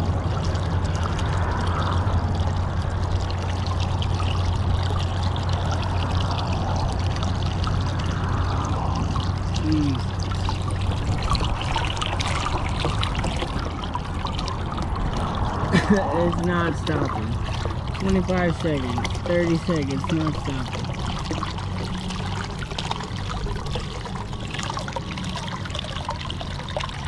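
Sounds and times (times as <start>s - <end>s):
water pouring out of kayak: 0.0s - 27.0s.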